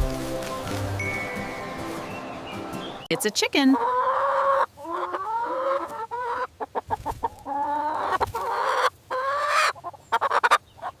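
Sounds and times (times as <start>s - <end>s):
chicken clucking: 1.9s - 11.0s
chicken calling: 2.2s - 11.0s.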